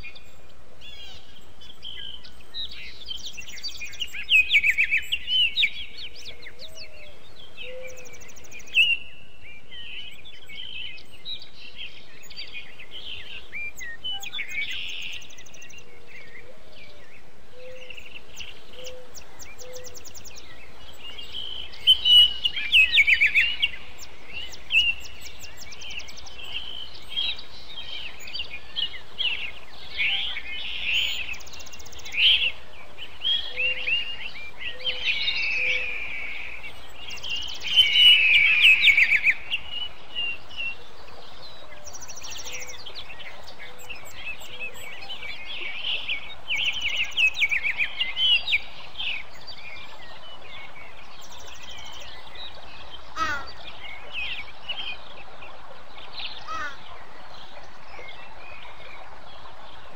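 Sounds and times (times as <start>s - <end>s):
faint low bird calls: 0.0s - 55.1s, 56.2s - 59.2s
background hiss: 0.0s - 59.9s
songbirds singing: 0.0s - 59.9s.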